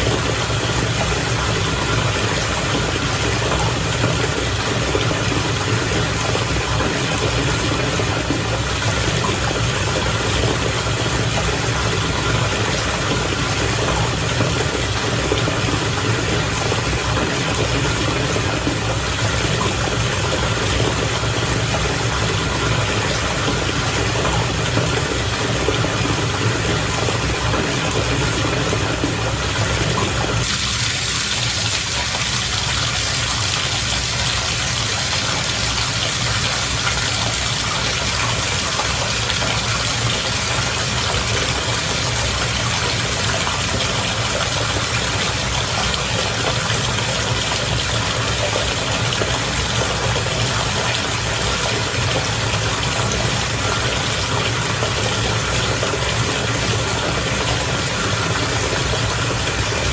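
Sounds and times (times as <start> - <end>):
bath water bubbling and churning: 0.0 - 59.9
pump motor hum: 0.0 - 59.9.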